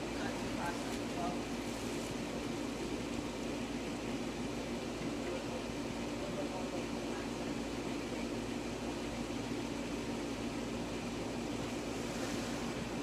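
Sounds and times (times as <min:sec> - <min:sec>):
machine humming with low drone: 0:00.0 - 0:13.0.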